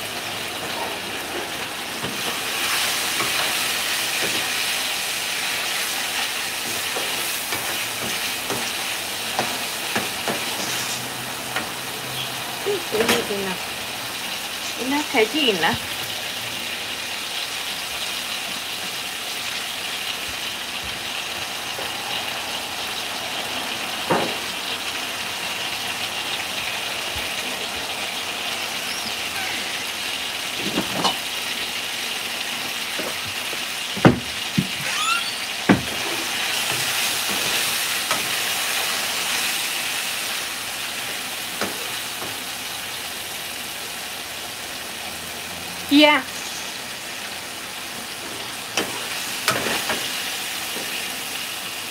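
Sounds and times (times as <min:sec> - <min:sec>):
food sizzling in a pan: 0:00.0 - 0:51.9.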